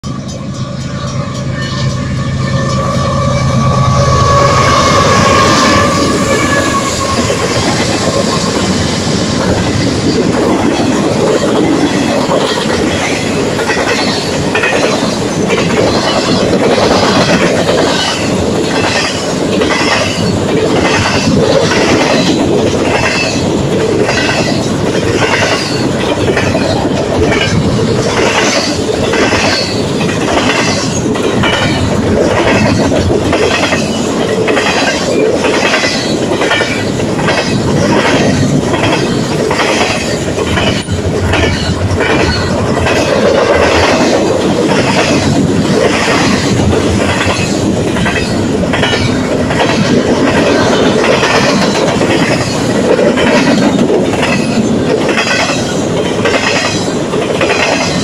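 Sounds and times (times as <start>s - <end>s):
diesel locomotives humming: 0.0s - 58.0s
train wheels clacking on rail joints: 0.0s - 58.0s.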